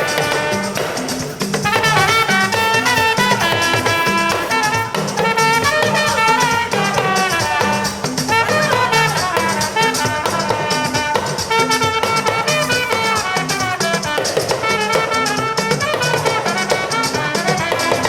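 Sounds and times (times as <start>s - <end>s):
steady percussion beat: 0.0s - 18.0s.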